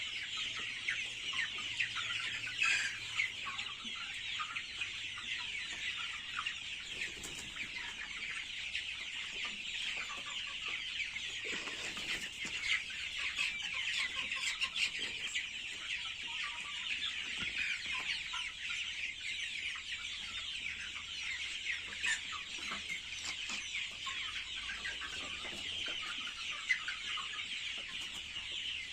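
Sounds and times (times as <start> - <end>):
chicks peeping and clucking: 0.0 - 28.9.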